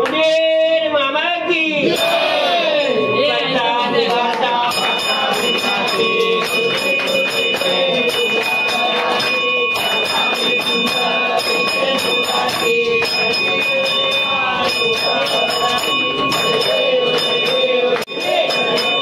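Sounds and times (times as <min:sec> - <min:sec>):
group singing: 0:01.8 - 0:19.0
brass bell ringing: 0:01.9 - 0:19.0.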